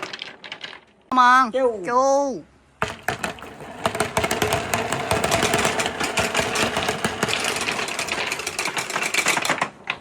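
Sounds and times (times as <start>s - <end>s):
marbles rolling and clattering: 0.0s - 1.1s, 2.8s - 10.0s.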